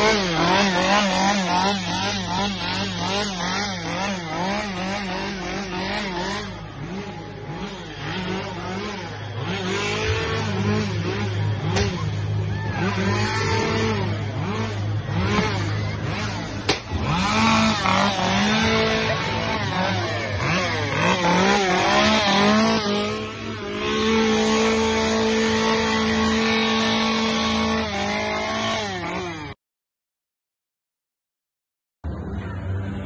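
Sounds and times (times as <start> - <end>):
chainsaw revving: 0.0 - 29.6.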